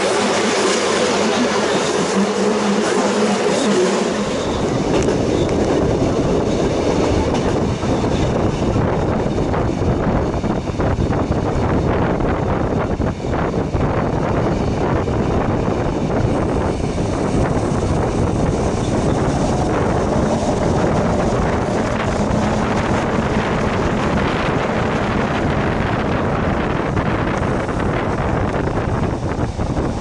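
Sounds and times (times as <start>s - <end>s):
train running on rails: 0.0s - 30.0s
wind buffeting microphone: 0.0s - 30.0s.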